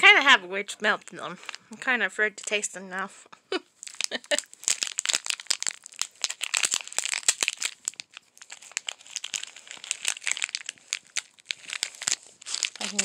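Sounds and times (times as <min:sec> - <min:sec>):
plastic packet crinkling: 0:00.8 - 0:01.8, 0:02.4 - 0:02.7, 0:03.7 - 0:13.0.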